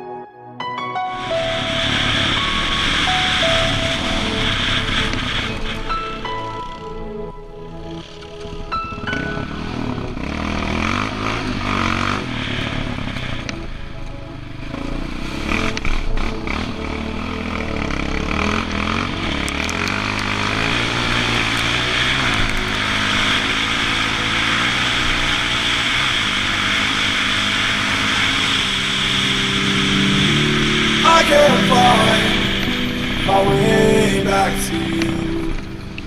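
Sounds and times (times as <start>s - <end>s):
quad engine revving: 1.5s - 5.9s, 7.9s - 36.0s.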